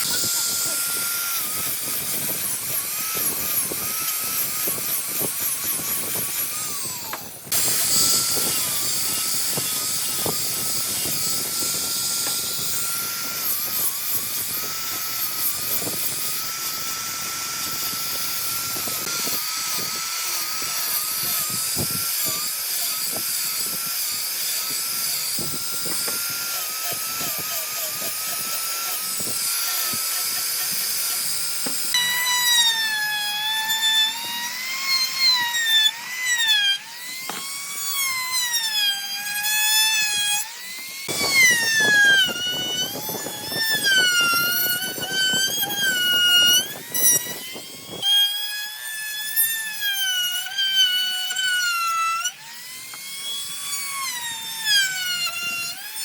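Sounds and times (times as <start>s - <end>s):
power tool motor whining: 0.0s - 56.0s.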